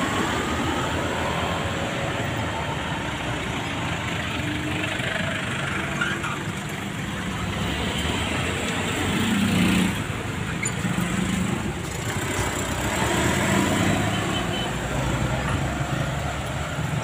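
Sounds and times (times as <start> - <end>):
cars passing: 0.0 - 17.0
motorcycles passing: 0.0 - 17.0
traffic engine hum: 0.0 - 17.0.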